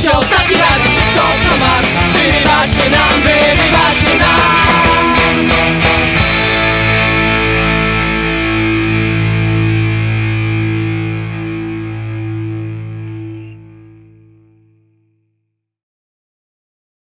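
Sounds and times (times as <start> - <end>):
distorted electric guitar chord: 0.4 - 14.9.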